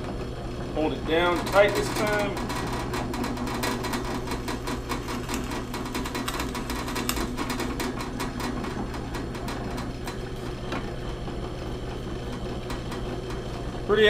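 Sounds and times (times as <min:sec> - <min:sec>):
drill press motor hum: 0:00.0 - 0:14.0.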